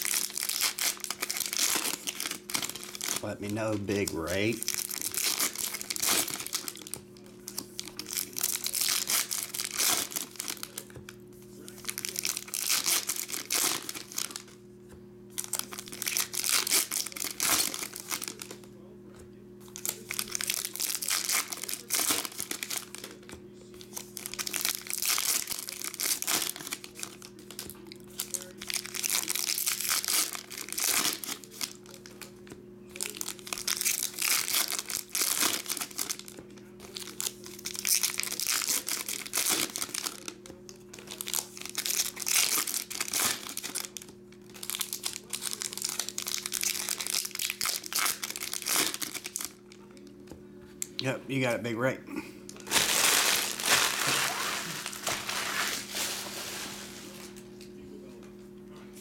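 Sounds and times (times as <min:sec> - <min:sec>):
foil wrappers crinkling and tearing: 0:00.0 - 0:14.6, 0:15.3 - 0:18.7, 0:19.6 - 0:50.0, 0:52.6 - 0:57.5.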